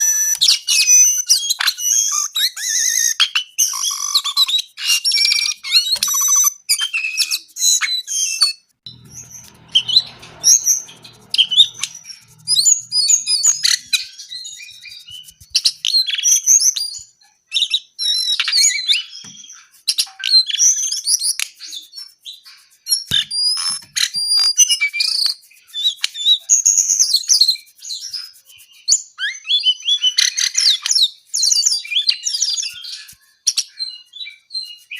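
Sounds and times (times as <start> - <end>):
sunbird chirping and trilling: 0.0 - 34.9.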